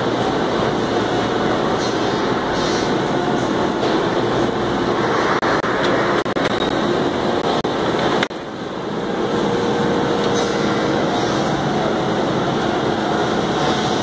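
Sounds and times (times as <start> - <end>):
woodworking machinery noise: 0.0 - 14.0.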